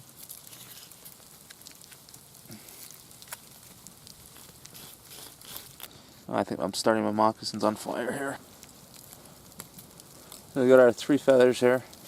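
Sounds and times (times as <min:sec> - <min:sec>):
small fire crackling: 0:00.0 - 0:12.0.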